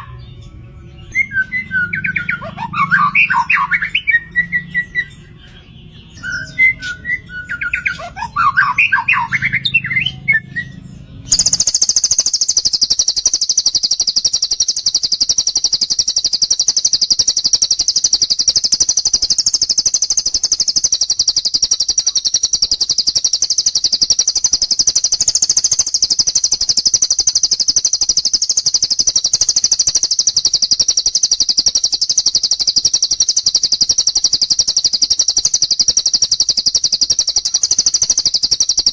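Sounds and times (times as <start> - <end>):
high rapid bird trill: 0.0 - 38.9
songbird chirps and squawks: 0.0 - 38.9.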